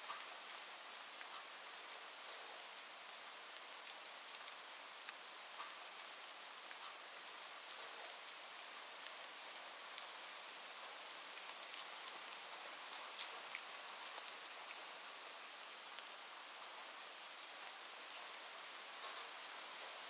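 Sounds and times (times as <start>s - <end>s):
rain falling: 0.0s - 20.0s
raindrops ticking on a surface: 0.0s - 20.0s.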